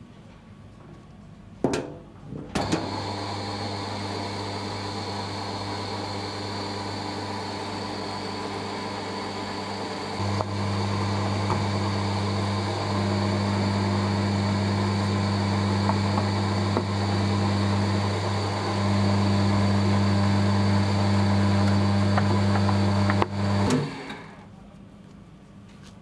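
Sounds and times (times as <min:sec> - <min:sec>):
electric motor humming: 0:02.7 - 0:24.3.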